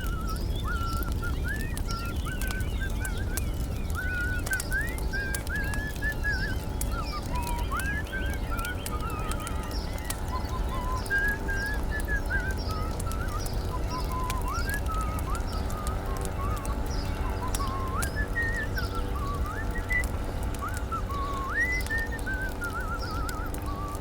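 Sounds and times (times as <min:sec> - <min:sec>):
bonfire crackling and popping: 0:00.0 - 0:24.0
warbling whistle-like song: 0:00.0 - 0:24.0.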